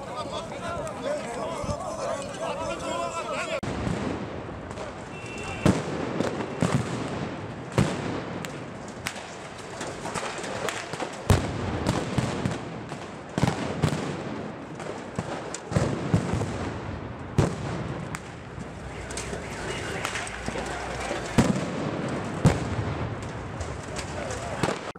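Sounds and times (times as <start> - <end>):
street noise: 0.0 - 24.9.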